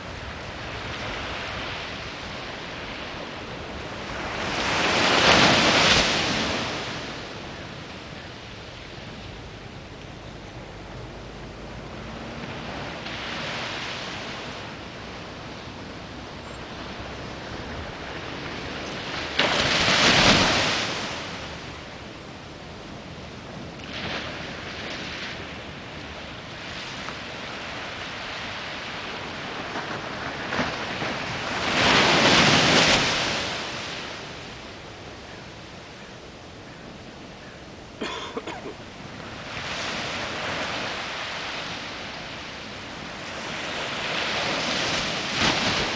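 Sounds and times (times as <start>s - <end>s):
small waves washing: 0.0s - 34.8s, 38.6s - 45.9s
waves breaking: 0.0s - 45.9s.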